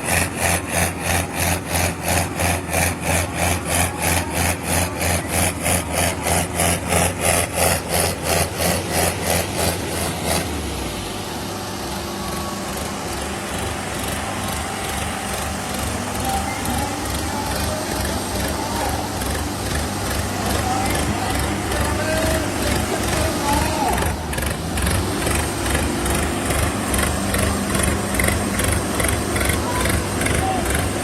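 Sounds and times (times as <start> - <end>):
diesel tractor engine running hard: 0.0 - 31.0.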